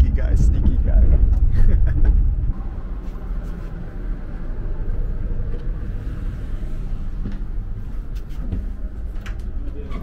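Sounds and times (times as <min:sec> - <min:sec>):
train rumble inside carriage: 0:00.0 - 0:10.0.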